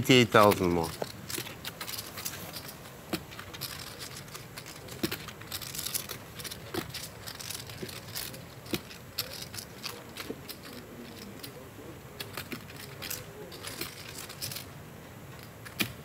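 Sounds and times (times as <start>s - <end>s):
poker chips clicking: 0.2s - 11.6s, 12.2s - 14.8s.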